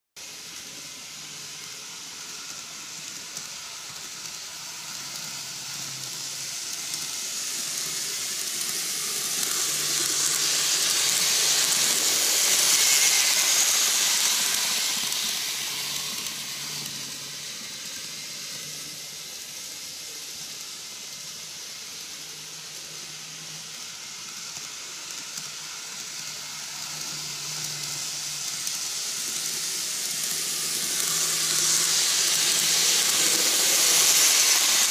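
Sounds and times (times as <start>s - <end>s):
model train wheels rolling on rails: 0.2s - 34.9s.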